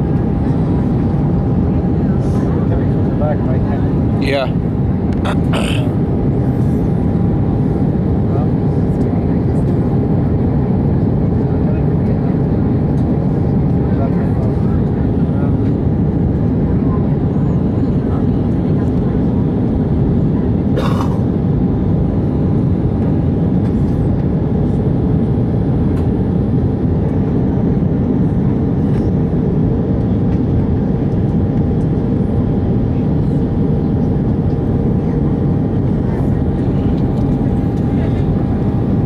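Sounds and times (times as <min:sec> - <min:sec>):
jet cabin roar in flight: 0:00.0 - 0:39.0.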